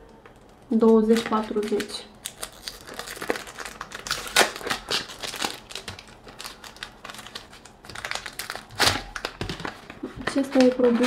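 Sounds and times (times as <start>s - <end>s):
paper crinkling and rustling: 0.7s - 11.0s.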